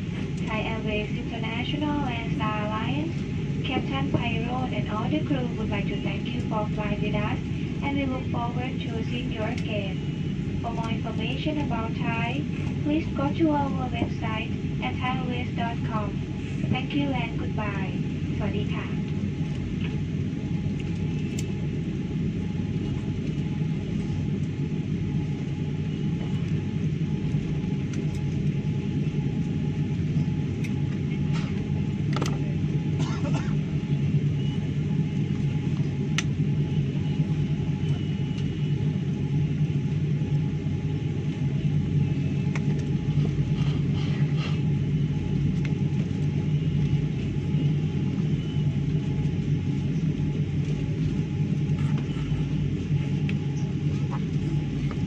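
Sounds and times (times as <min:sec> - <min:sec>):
airliner cabin low rumble: 0:00.0 - 0:55.0.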